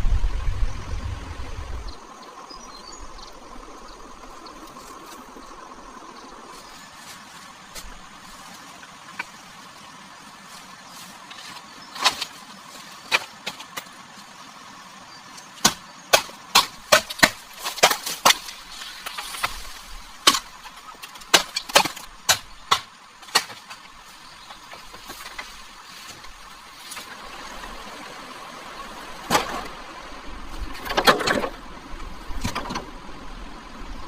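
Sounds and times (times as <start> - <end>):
steady background hiss: 0.0 - 34.0.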